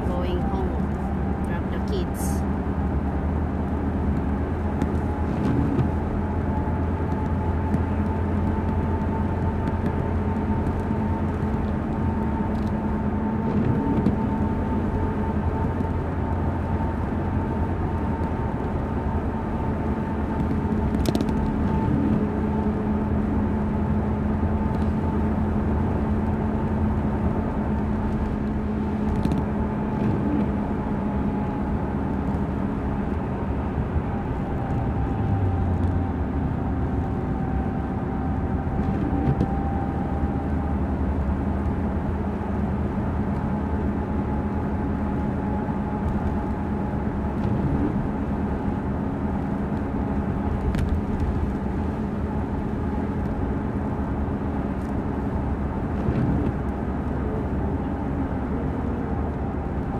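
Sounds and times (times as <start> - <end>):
car engine and tyres humming: 0.0 - 59.9.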